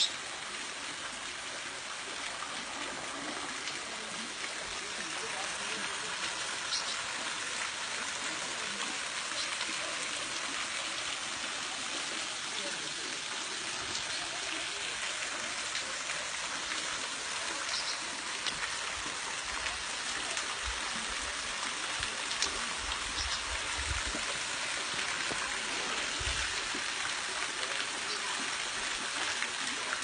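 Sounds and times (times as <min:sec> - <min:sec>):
waterfall pouring into pool: 0:00.0 - 0:30.0.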